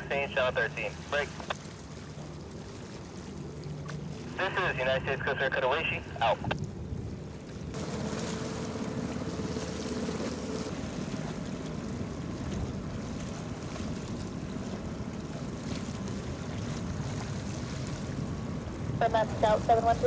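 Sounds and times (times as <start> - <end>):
open water: 0.0 - 20.0.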